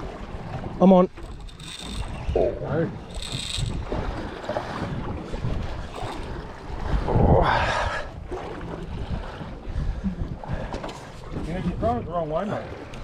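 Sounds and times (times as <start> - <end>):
water noise: 0.0 - 13.0
wind buffeting microphone: 0.0 - 13.0.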